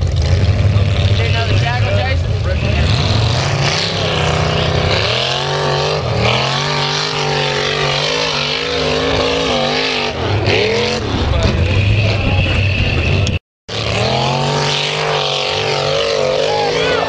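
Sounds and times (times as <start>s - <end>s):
pickup engine revving hard: 0.0s - 17.0s.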